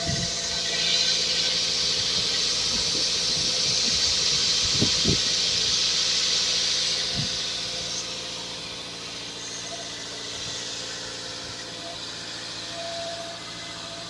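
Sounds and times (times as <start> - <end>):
loud steady hiss: 0.0 - 13.8
car engine idling fast: 0.0 - 14.0.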